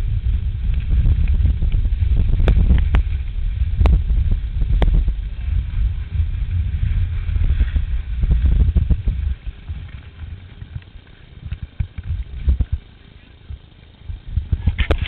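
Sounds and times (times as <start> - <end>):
wind buffeting camera: 0.0 - 15.0
skis sliding on packed snow: 0.1 - 15.0.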